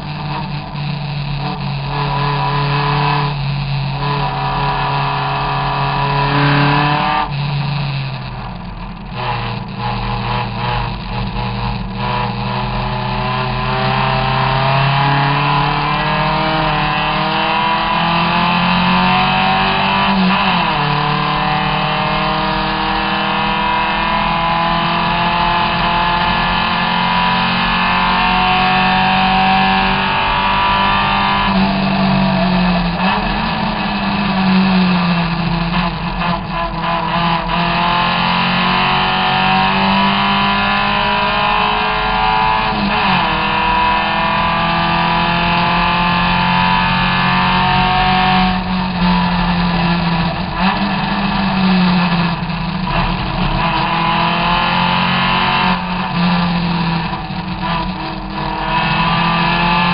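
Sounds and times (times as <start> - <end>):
gear change: 0.0 - 59.9
race car engine: 0.0 - 59.9.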